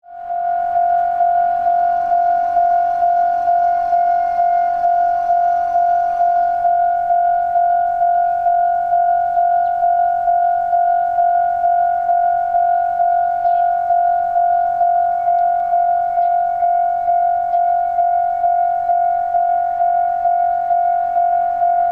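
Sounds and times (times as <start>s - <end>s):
level crossing warning bell: 0.0s - 21.9s.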